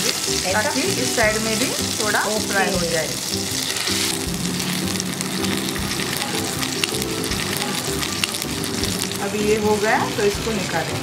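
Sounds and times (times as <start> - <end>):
background music: 0.0 - 11.0
fish sizzling in hot oil: 0.0 - 11.0.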